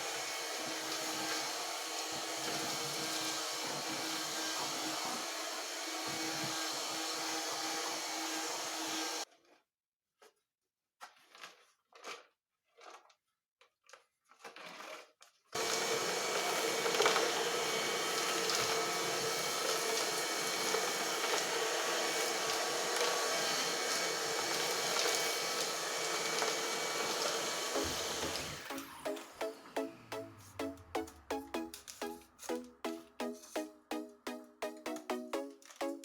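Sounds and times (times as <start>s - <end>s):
vacuum cleaner running: 0.0s - 9.2s, 15.6s - 36.0s.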